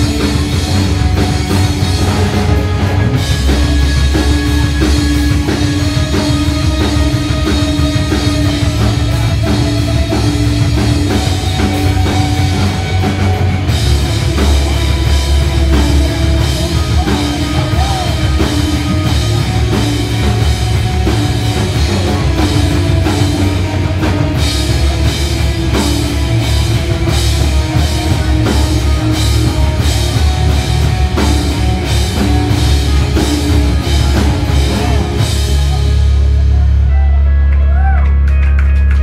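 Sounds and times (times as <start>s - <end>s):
bass guitar: 0.0s - 39.0s
drum kit: 0.0s - 39.0s
electric guitar: 0.0s - 39.0s.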